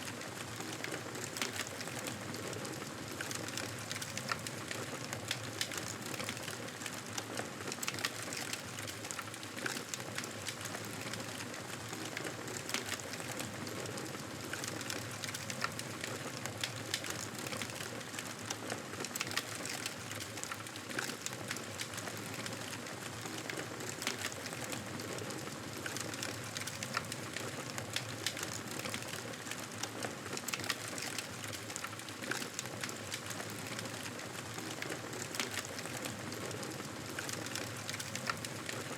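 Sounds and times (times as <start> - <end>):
wood fire crackling: 0.1 - 38.9.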